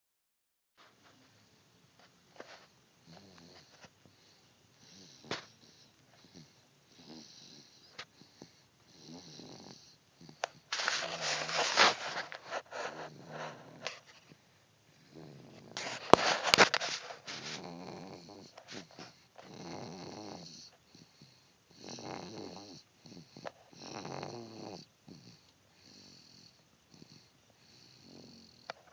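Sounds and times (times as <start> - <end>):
person snoring: 3.0 - 14.0, 15.0 - 28.8.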